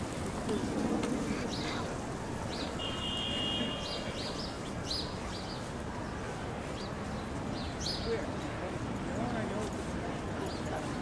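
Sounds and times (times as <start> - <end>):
city background noise: 0.0 - 11.0.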